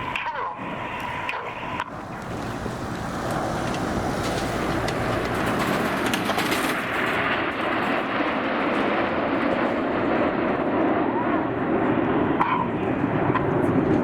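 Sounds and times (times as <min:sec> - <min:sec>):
jet aircraft flying over: 0:00.0 - 0:14.0.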